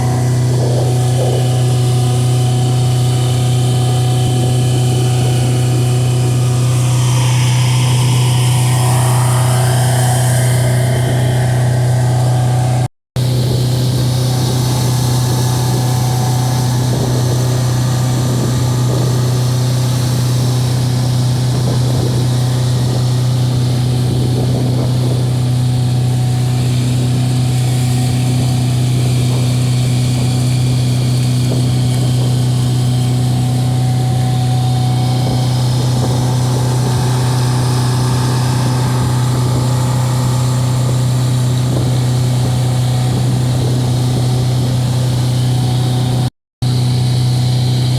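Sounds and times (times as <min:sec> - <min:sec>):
boat motor humming: 0:00.0 - 0:47.9.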